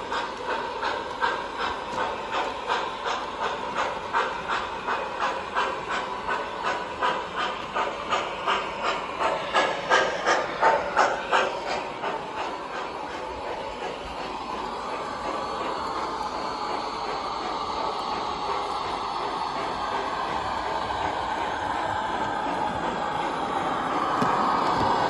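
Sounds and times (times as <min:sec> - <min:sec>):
model steam locomotive chuffs: 0:00.0 - 0:25.0.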